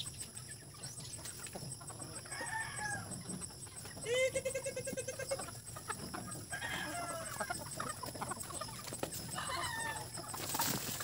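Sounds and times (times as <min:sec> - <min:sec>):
chicken calls gliding down: 0:00.0 - 0:11.0
chickens clucking: 0:00.0 - 0:11.0.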